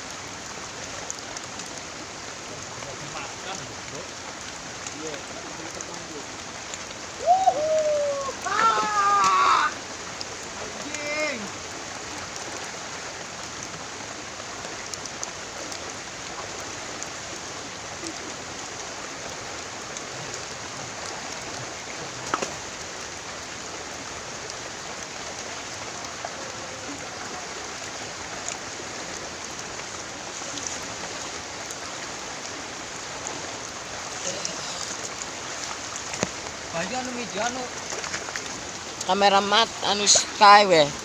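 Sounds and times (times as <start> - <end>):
hiss of running water: 0.0 - 41.0.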